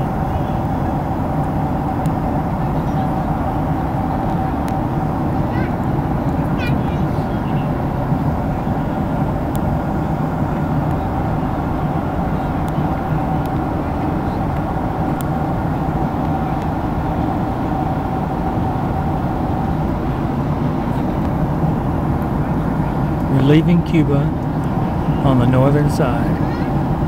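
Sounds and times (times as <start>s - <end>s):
airliner cabin engine rush: 0.0s - 27.0s.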